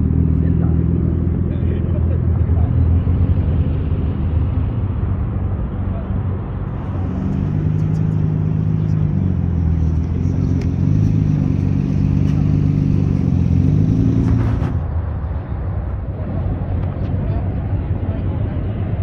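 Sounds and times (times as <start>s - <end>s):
car engine and exhaust drone: 0.0s - 19.0s.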